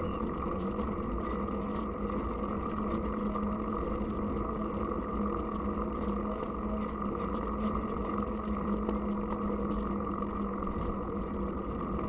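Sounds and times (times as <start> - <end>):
tyres rumbling on asphalt: 0.0 - 12.0.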